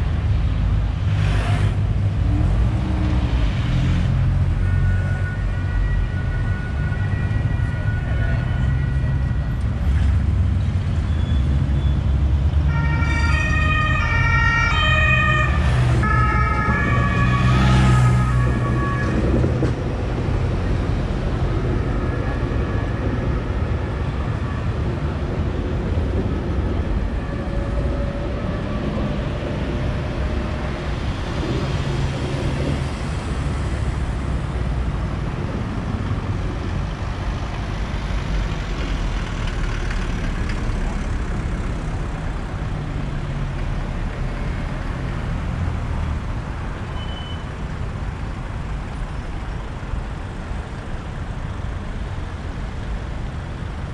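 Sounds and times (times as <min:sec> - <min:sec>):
passing cars rumbling: 0:00.0 - 0:53.9.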